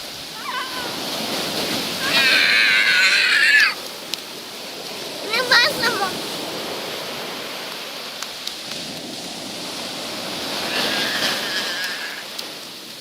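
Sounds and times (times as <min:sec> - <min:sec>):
waves washing on a beach: 0:00.0 - 0:13.0.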